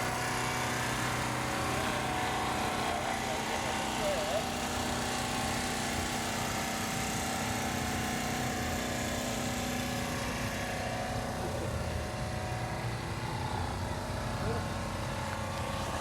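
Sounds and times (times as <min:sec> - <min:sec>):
steady mechanical drone: 0:00.0 - 0:16.0.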